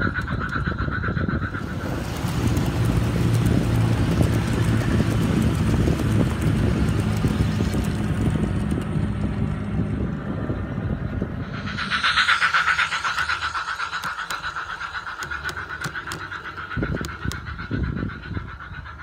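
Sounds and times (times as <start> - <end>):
quick wheel clicks: 0.0 - 9.2, 11.7 - 18.9
wind noise on microphone: 0.0 - 14.4, 15.2 - 19.0
miniature train wheels rumbling: 0.0 - 19.0.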